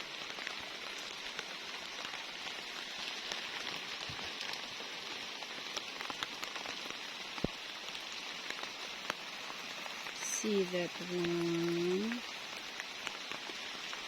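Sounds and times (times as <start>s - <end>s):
rain pattering: 0.0s - 14.0s
raindrop ticks: 0.0s - 14.0s.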